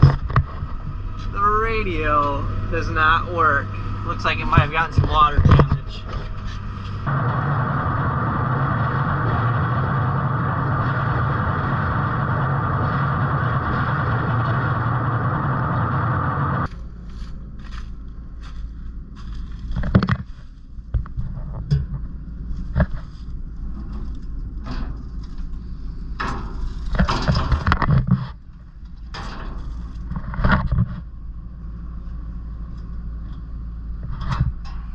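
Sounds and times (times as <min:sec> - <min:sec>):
rattling noise: 0:00.0 - 0:15.7, 0:16.6 - 0:31.4
tractor engine under load: 0:00.0 - 0:34.9.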